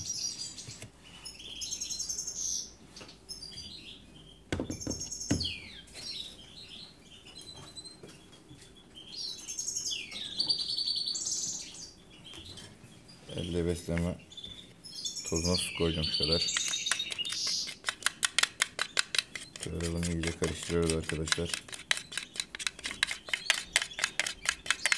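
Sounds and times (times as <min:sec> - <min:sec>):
canaries chirping and trilling: 0:00.0 - 0:24.9.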